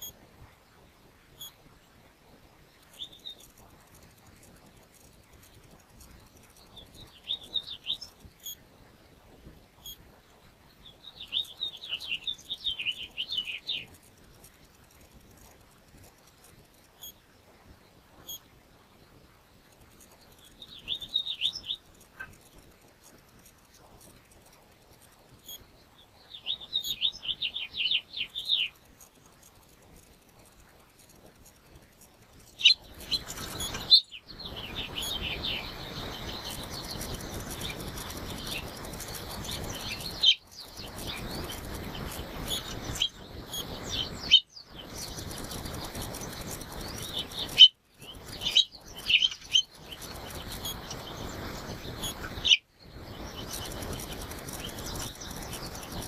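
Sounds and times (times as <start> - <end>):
songbird chirping: 2.4 - 8.6, 9.8 - 30.4, 31.4 - 56.0.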